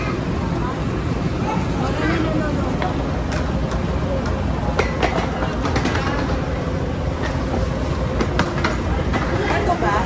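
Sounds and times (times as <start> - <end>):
conveyor rumble: 0.0 - 10.0.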